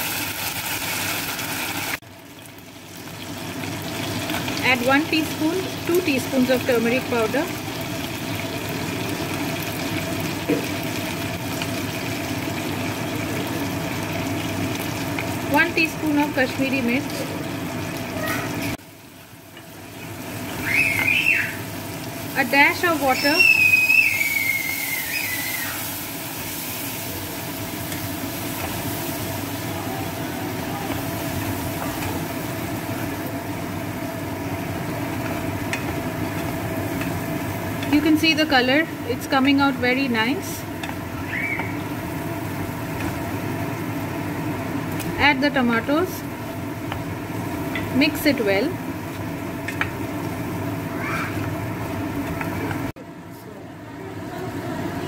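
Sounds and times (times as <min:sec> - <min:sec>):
spices sizzling in hot oil: 0:00.0 - 0:53.0.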